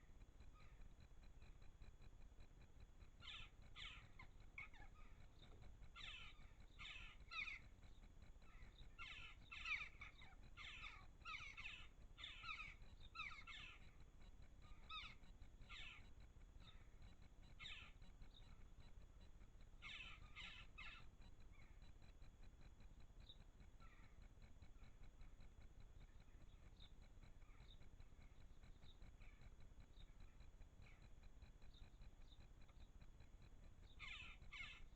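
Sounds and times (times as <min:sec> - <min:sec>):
faint bird calling: 0:00.0 - 0:34.9.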